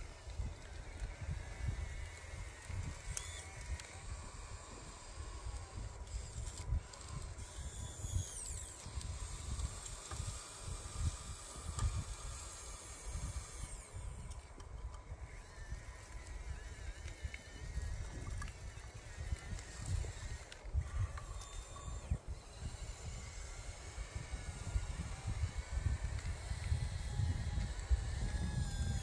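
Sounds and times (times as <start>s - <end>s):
small electric motors whining: 0.0s - 29.0s
wind rumble on microphone: 0.0s - 29.0s.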